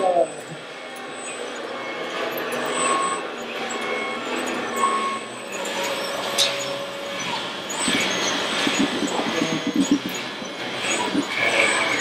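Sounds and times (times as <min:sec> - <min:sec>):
radio-controlled vehicles running: 0:00.0 - 0:12.0.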